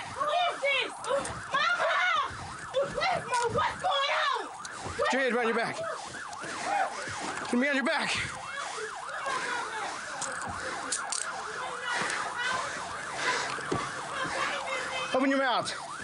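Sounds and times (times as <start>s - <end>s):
police siren yelping: 0.0s - 16.0s.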